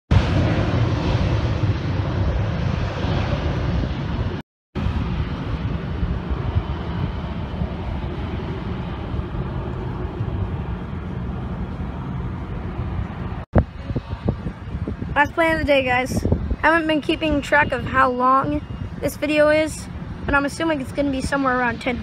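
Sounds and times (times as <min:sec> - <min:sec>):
jet engines rumbling: 0:00.1 - 0:22.0.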